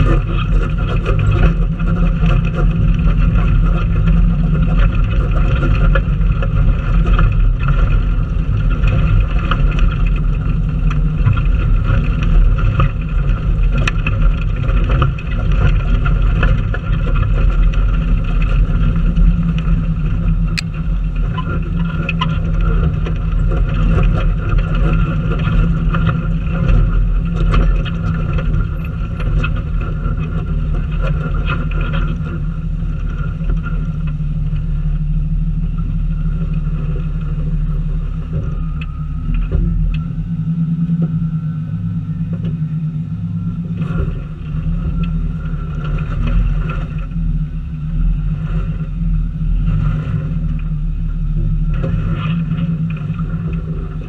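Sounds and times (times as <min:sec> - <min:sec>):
low engine drone: 0:00.0 - 0:54.0.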